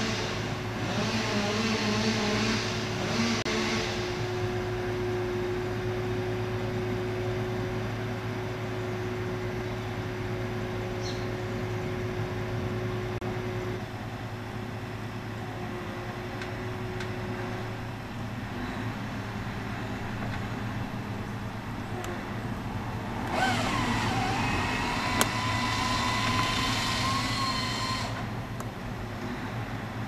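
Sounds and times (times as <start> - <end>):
hydraulic whine: 0.0 - 29.8
crane engine humming: 0.0 - 30.0.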